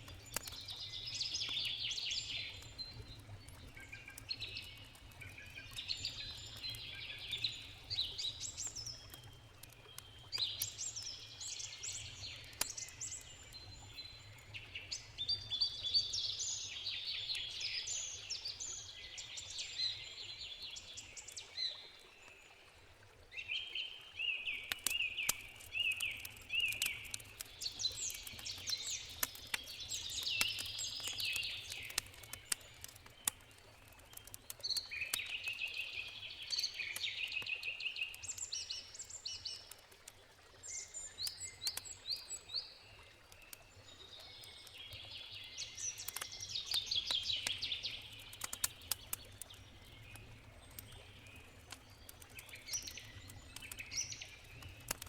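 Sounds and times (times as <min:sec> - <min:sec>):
campfire crackling and popping: 0:00.0 - 0:20.0, 0:24.4 - 0:55.0
birds singing: 0:00.0 - 0:21.7, 0:23.4 - 0:39.8, 0:40.6 - 0:55.0.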